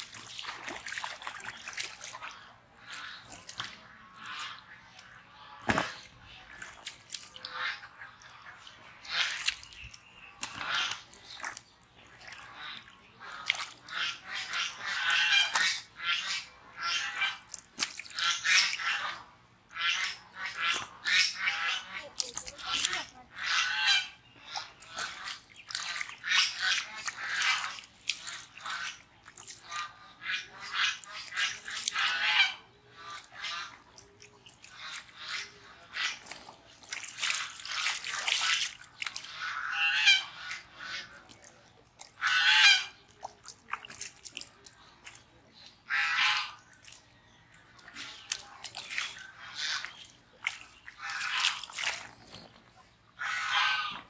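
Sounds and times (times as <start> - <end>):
catfish squelching on mud: 0.0 - 54.0.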